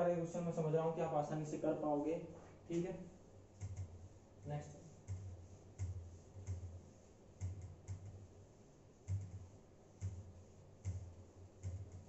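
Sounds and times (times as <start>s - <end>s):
cloth rubbing on whiteboard: 2.2s - 12.0s.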